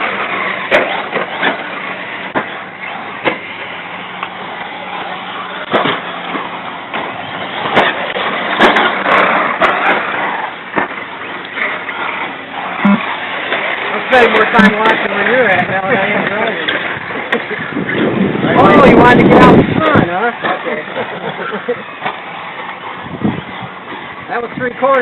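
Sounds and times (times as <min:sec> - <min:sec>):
remote-control cars running: 0:00.0 - 0:25.0.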